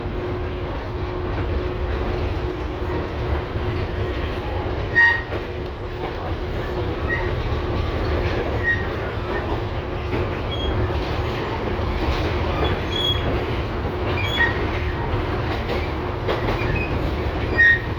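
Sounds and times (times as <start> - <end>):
tram wheels rumbling on rail: 0.0 - 17.9.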